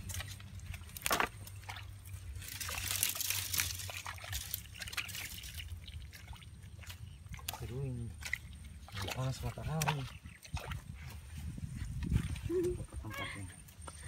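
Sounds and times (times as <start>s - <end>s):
wet mud squelching and sloshing: 0.0s - 14.0s.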